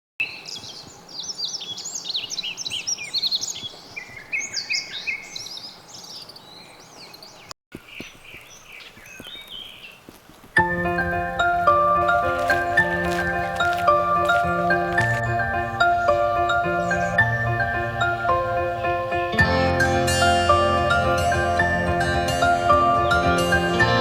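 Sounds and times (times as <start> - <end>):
songbirds singing: 0.2 - 19.4.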